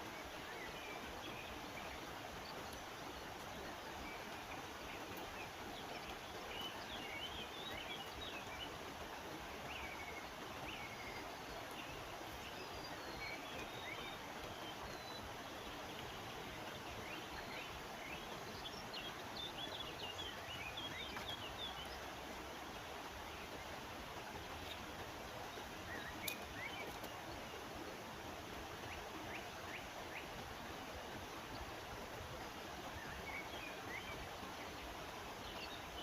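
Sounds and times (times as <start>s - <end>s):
river water rushing: 0.0s - 36.0s
small birds chirping: 0.0s - 36.0s.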